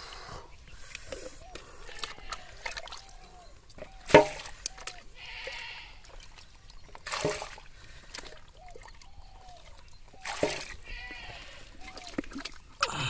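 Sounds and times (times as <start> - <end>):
water trickling and sloshing: 0.6 - 13.0
bucket splashing in water: 1.9 - 13.0.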